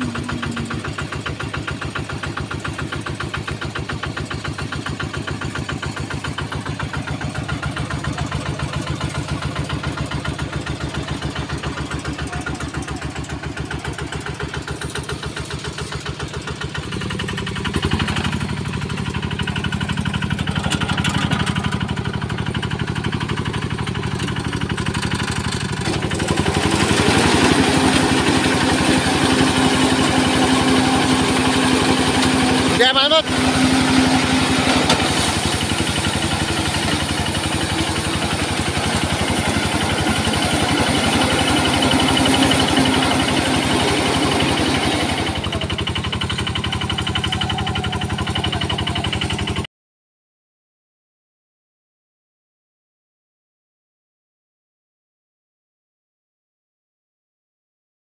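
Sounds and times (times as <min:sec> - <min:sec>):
combine harvester engine running: 0:00.0 - 0:49.7.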